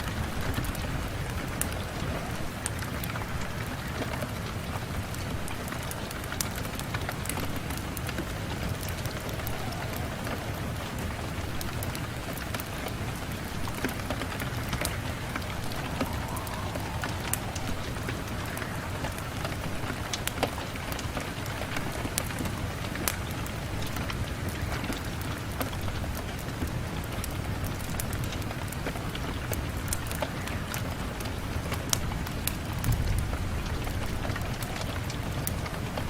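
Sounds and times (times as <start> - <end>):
rain falling on a window: 0.0 - 36.0.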